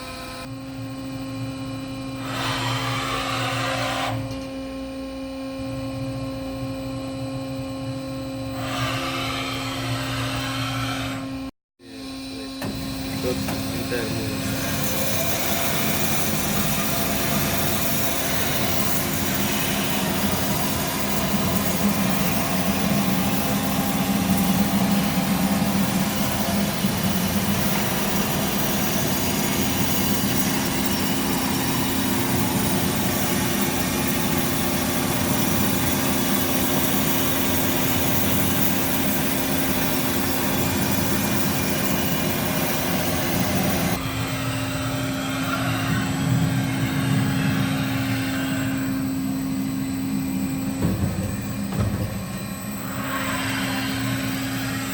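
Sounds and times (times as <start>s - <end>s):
bandsaw machine hum: 0.0s - 4.4s, 6.6s - 54.9s.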